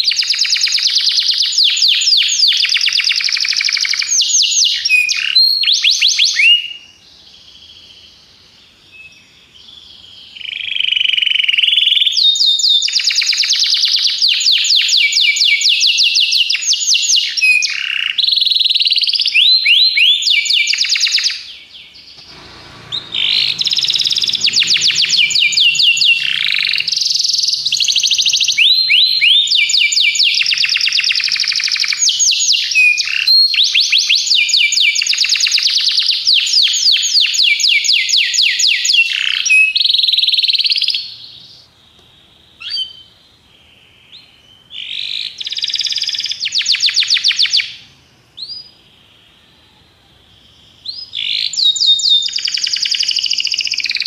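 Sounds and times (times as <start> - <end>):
canary singing trills: 0.0 - 41.7, 42.6 - 54.0.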